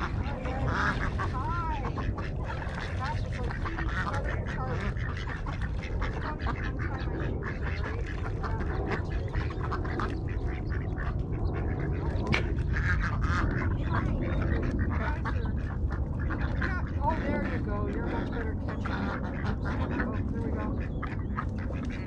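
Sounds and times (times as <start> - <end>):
ducks quacking: 0.0 - 22.0
steady low rumble: 0.0 - 22.0.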